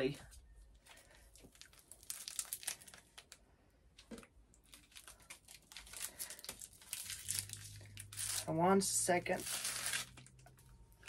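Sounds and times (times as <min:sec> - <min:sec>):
plastic wrapper crinkling and tearing: 0:00.8 - 0:03.4, 0:04.0 - 0:11.0.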